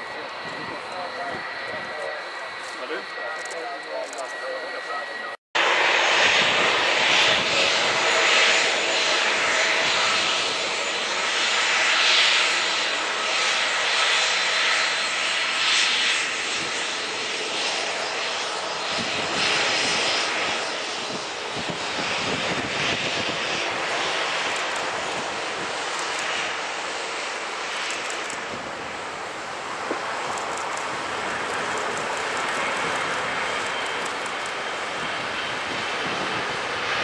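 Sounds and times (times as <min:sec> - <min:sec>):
jet engines roaring on take-off: 0:00.0 - 0:37.0.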